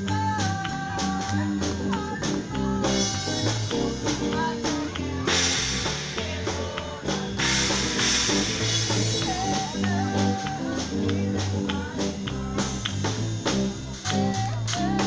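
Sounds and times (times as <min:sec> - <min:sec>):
bass line: 0:00.0 - 0:15.0
guitar: 0:00.0 - 0:15.0
drum kit hits: 0:01.6 - 0:13.9.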